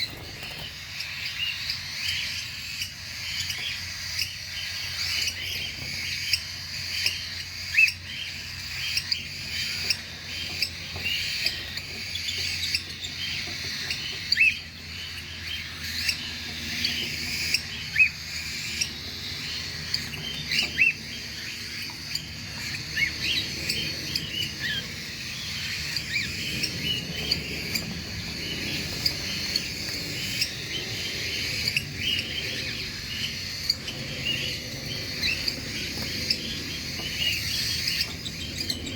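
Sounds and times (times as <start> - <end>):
cockatiels chattering: 0.0 - 38.9.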